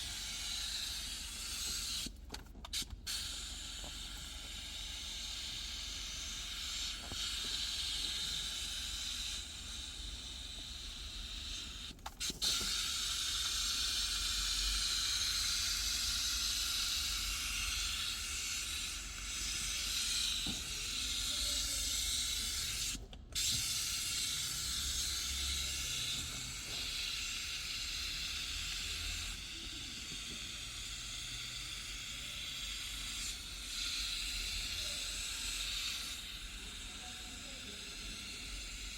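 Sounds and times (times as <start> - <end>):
pressurised jet hissing: 3.1 - 38.9.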